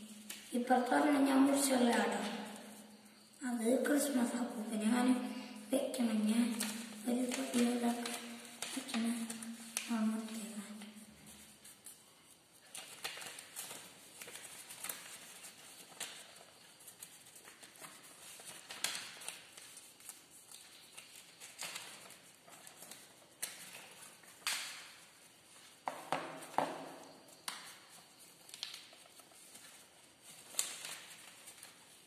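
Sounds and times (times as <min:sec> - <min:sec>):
paper rustling and crinkling: 0:00.0 - 0:00.9, 0:01.5 - 0:32.0
fingers tapping paper folds: 0:00.1 - 0:00.7, 0:05.9 - 0:12.0, 0:12.6 - 0:32.0.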